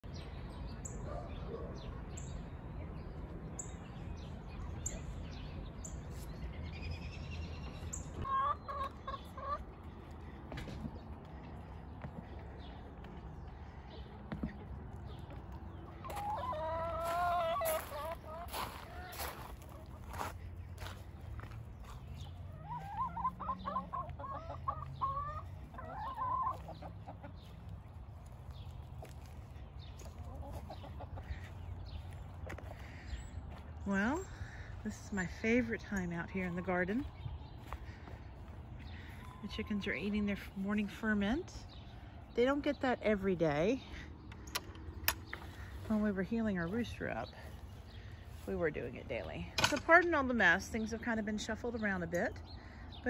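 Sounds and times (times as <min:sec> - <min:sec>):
small birds chirping: 0:00.0 - 0:53.0
chickens clucking: 0:07.6 - 0:53.0.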